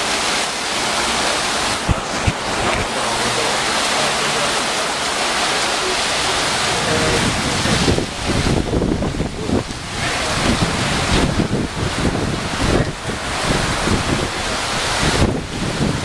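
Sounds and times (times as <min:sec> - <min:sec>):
hurricane wind and rain: 0:00.0 - 0:16.0
wind gusts buffeting microphone: 0:00.0 - 0:16.0.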